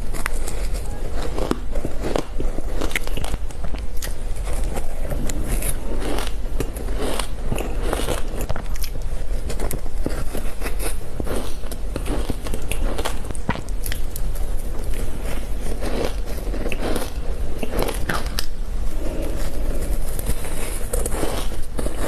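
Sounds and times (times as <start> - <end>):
crunching shaved ice: 0.0 - 22.0
steady low hum: 0.0 - 22.0.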